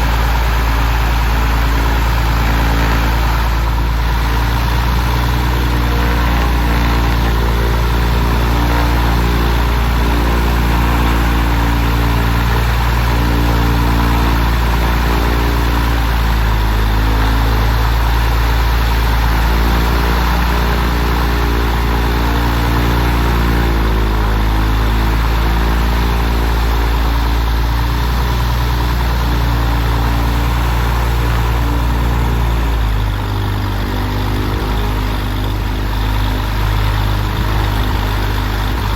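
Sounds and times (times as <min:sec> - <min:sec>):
propeller aircraft engine running: 0:00.0 - 0:38.9.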